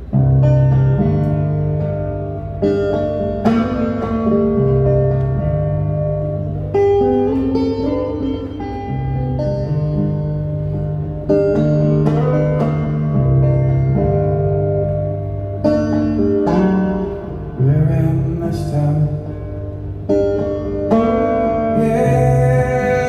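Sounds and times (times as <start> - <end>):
electric guitar notes: 0.0 - 23.0.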